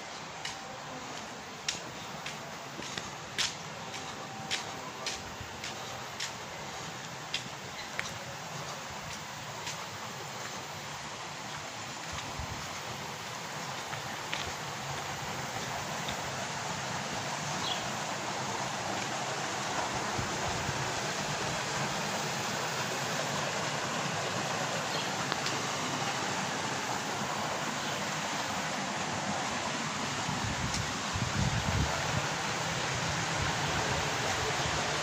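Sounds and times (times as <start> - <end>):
water rushing along channel: 0.0 - 35.0.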